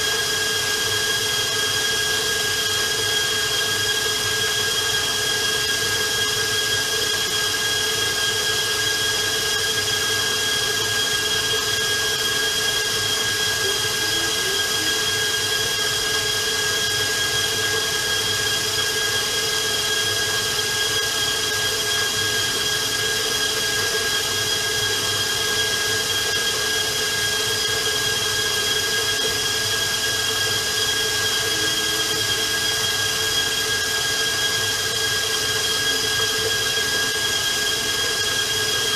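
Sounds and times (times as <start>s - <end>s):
stand mixer motor whine: 0.0s - 38.9s.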